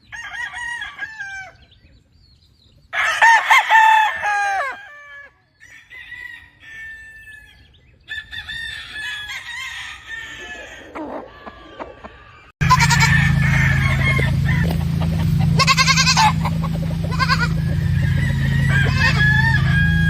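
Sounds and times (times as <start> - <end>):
roosters crowing: 0.0 - 1.9, 2.9 - 20.0.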